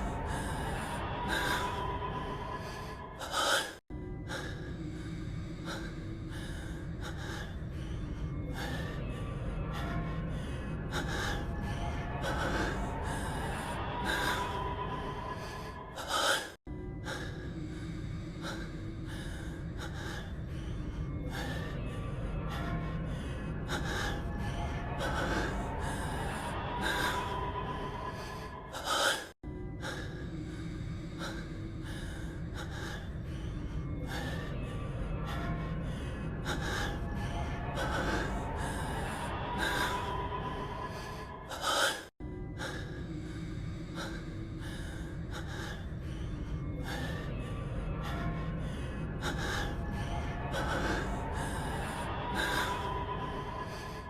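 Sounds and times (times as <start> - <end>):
music: 0.0 - 54.0.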